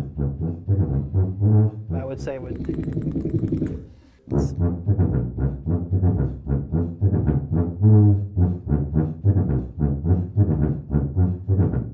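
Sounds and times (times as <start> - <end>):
tuba playing low notes: 0.0 - 2.8, 3.6 - 11.9.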